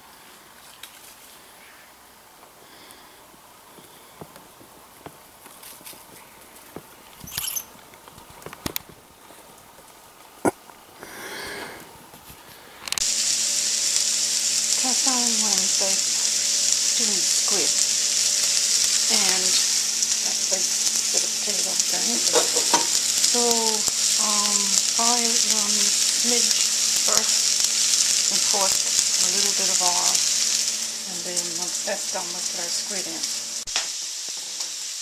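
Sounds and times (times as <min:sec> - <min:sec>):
onions sizzling in oil: 0:00.0 - 0:35.0.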